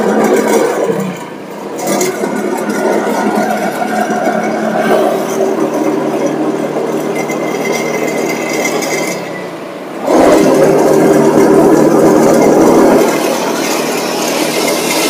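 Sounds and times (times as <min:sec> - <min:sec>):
auto-rickshaw engine running: 0:00.0 - 0:15.0
road traffic: 0:00.0 - 0:15.0.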